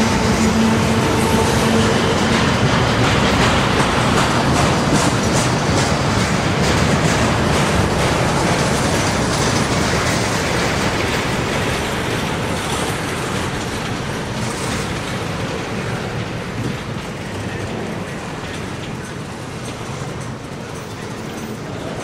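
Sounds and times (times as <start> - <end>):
train wheels rolling on rail: 0.0 - 22.0.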